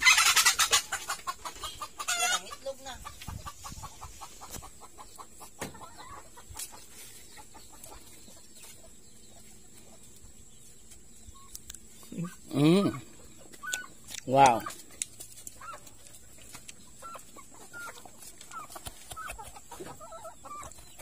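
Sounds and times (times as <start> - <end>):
poultry clucking: 0.0 - 21.0.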